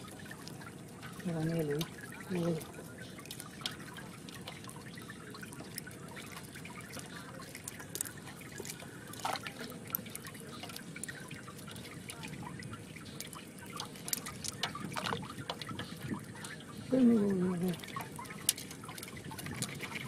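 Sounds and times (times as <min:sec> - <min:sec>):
hands rummaging through wet fish: 0:00.0 - 0:20.0.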